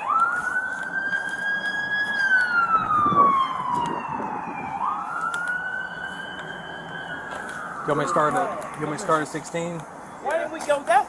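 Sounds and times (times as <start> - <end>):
siren wailing: 0.0 - 9.4.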